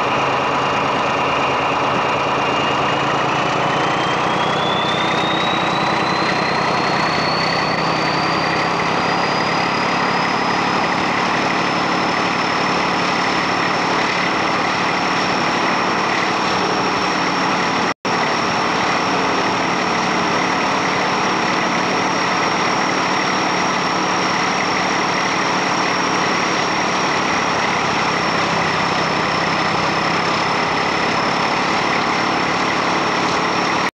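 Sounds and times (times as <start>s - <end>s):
high whine: 0.0s - 33.9s
locomotive diesel engine working: 0.0s - 34.0s.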